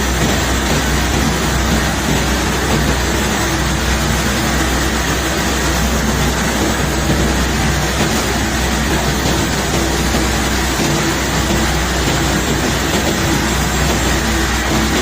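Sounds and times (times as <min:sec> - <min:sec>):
continuous machinery noise: 0:00.0 - 0:15.0
unloading machinery engine hum: 0:00.0 - 0:15.0.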